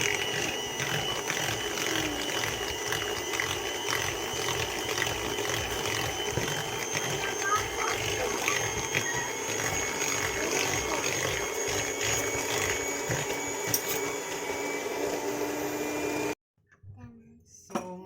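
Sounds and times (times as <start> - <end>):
electric mixer running: 0.0 - 16.4.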